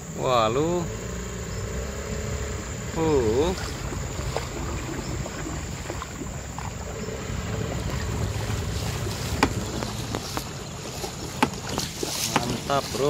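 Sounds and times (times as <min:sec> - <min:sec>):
small boat rumbling on water: 0:00.0 - 0:13.0.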